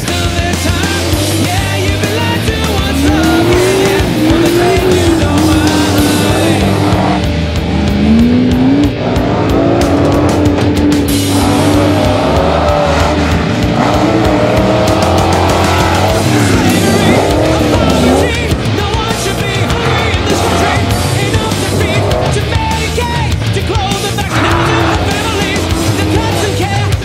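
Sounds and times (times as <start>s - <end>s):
rock song: 0.0s - 27.0s
truck engine revving: 0.0s - 27.0s.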